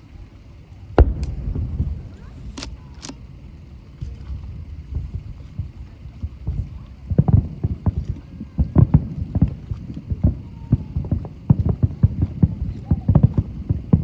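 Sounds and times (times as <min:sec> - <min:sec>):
fireworks booming: 0:00.1 - 0:14.0.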